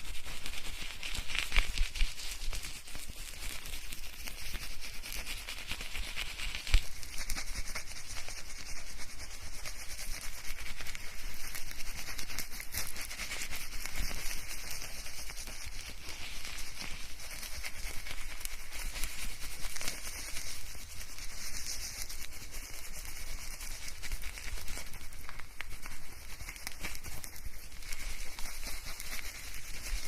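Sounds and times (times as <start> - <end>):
fingers scrubbing lathered hair: 0.0 - 30.0.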